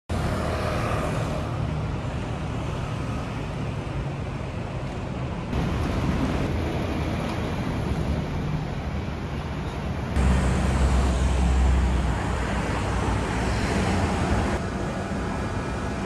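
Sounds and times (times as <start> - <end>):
city street traffic rumble: 0.1 - 16.0.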